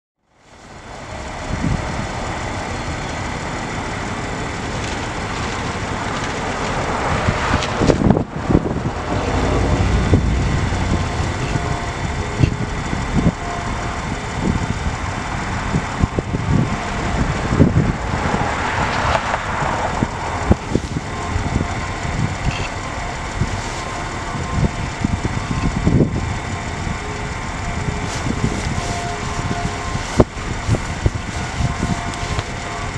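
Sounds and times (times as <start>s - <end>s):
street traffic passing: 0.2s - 32.9s.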